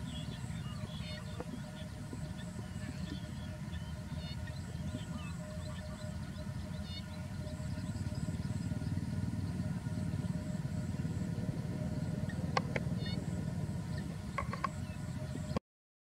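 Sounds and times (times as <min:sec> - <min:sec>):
low outdoor rumble: 0:00.0 - 0:15.6.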